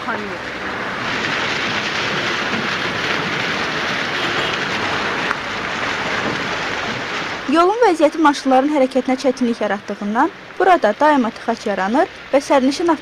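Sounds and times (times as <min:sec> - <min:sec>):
vehicle engines: 0:00.0 - 0:13.0.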